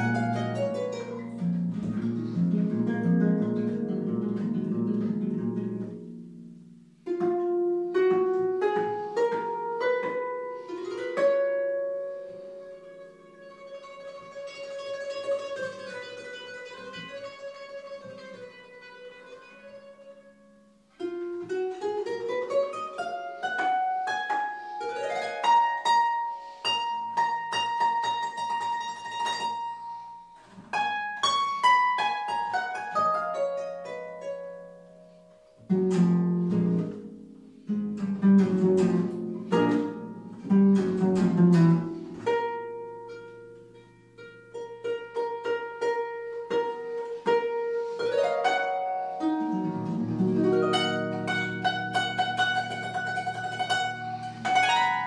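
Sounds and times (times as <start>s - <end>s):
harp playing: 0.0s - 55.0s.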